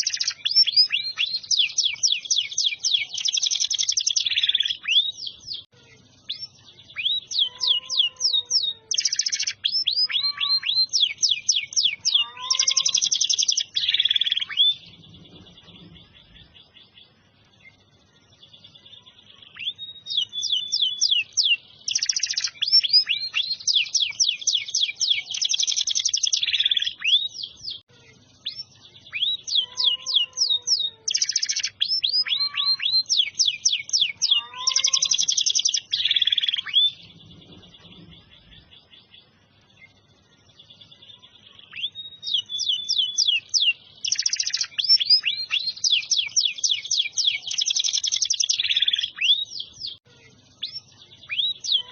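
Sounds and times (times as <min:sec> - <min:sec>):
canary singing trilled phrases: 0:00.0 - 0:51.9.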